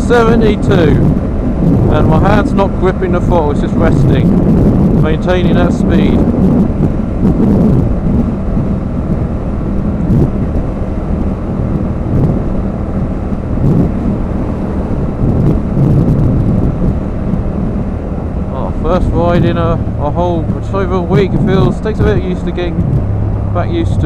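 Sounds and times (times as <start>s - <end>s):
motorcycle engine hum: 0.0s - 24.0s
wind rumble buffeting microphone: 0.0s - 24.0s.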